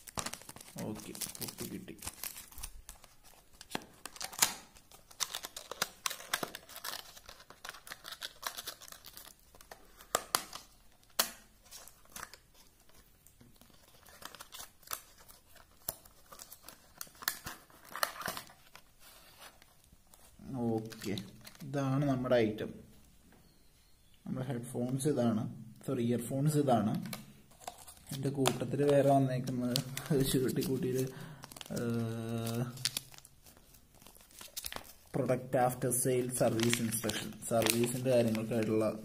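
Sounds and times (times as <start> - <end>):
packaging crinkling and rustling: 0.0 - 21.7, 27.0 - 35.2, 36.2 - 39.0.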